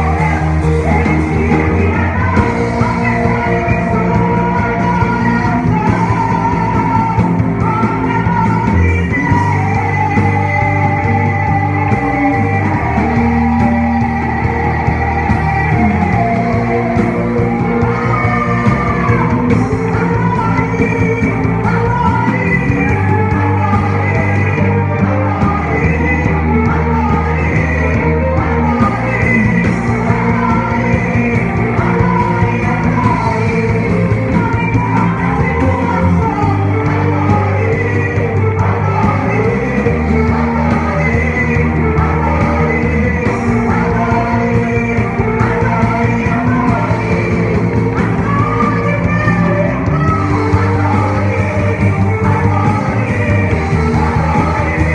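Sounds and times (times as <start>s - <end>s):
bass line holding long notes: 0.0s - 54.9s
praise band with singing: 0.0s - 54.9s.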